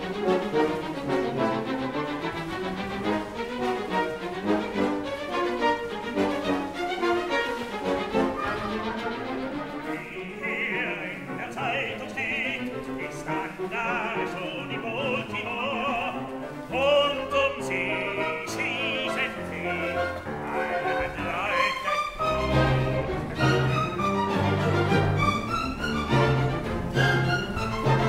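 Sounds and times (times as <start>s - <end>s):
operatic singing: 0.0s - 28.0s
orchestral accompaniment: 0.0s - 28.0s.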